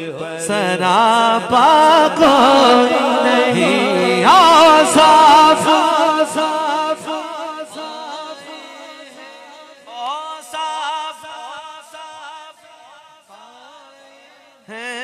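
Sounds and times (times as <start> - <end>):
man singing through echoing pa: 0.0 - 15.0.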